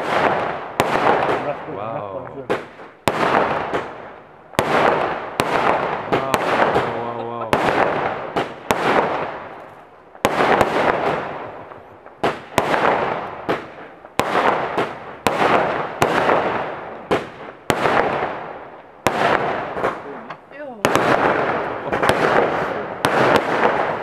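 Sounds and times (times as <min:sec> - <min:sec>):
fireworks bursting with crackle: 0:00.0 - 0:24.0.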